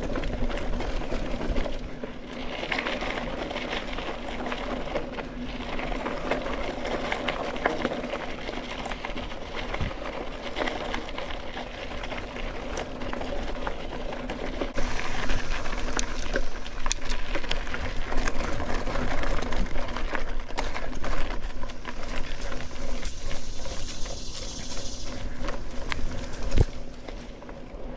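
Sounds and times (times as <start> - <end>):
bike clicks and knocks: 0.0 - 24.0
bike mechanical rattle: 0.0 - 27.9
bike tyres on dirt: 0.0 - 27.9.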